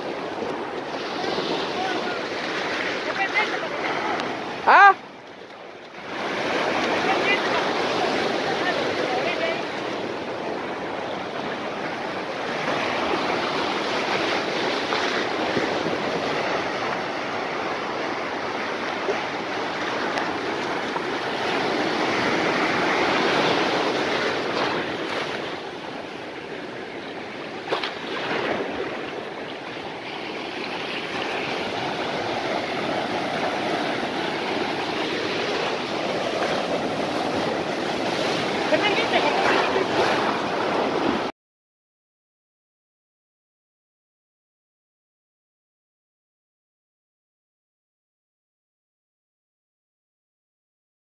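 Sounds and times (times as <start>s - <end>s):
ocean surf breaking: 0.0s - 41.3s.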